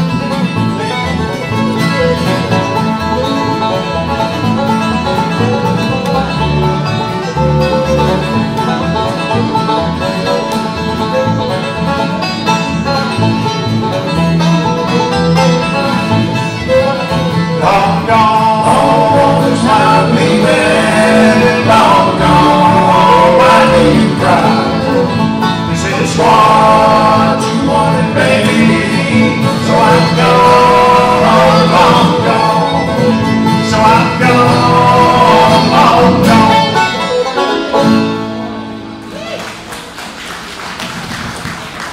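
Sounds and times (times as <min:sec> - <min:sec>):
banjo: 0:00.0 - 0:39.0
fiddle: 0:00.0 - 0:39.4
upright bass: 0:00.0 - 0:40.0
acoustic guitar: 0:00.0 - 0:41.9.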